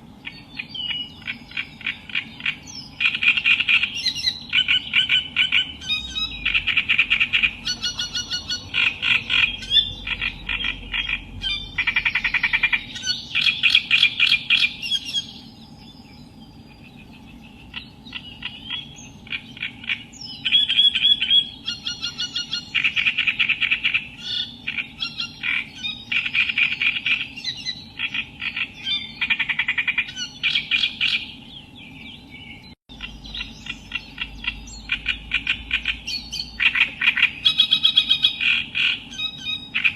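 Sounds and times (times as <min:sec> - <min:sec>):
reed warbler singing: 0:00.0 - 0:39.9.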